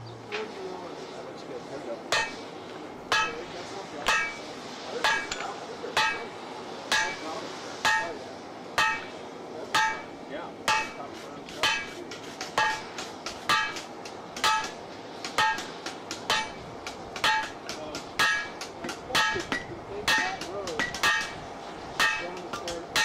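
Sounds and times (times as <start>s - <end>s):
hammer striking steel on anvil: 2.1s - 2.5s, 3.1s - 8.2s, 8.8s - 23.0s.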